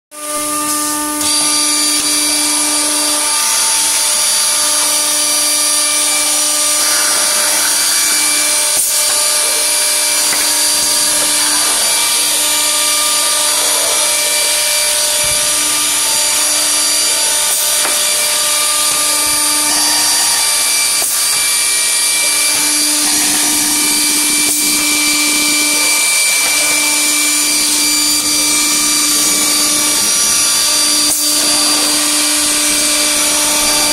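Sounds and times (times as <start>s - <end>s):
bits drilling and milling board: 0.1s - 33.9s
spindle motors whining: 0.2s - 33.9s.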